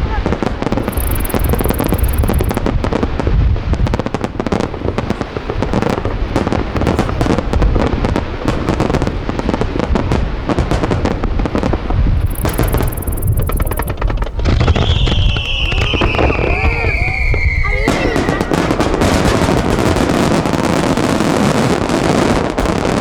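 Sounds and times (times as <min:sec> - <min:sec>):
fireworks booming: 0:00.0 - 0:23.0
fireworks crackling: 0:00.0 - 0:23.0.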